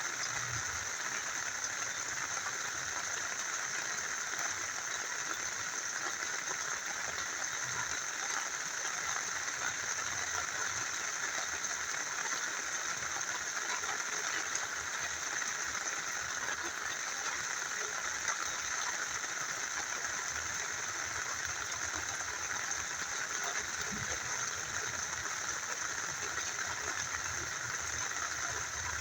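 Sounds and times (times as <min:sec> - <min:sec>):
rain falling: 0:00.0 - 0:29.0
small river flowing: 0:00.0 - 0:29.0.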